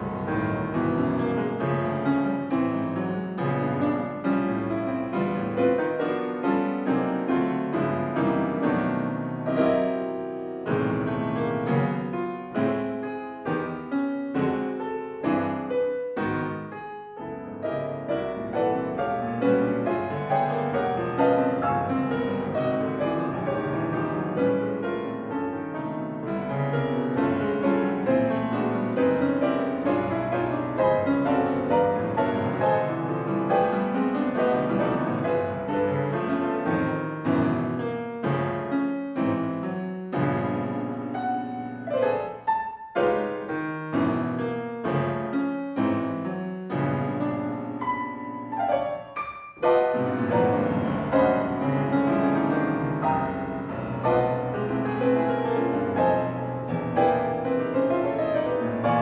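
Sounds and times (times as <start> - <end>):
classical piano playing: 0.0 - 59.0.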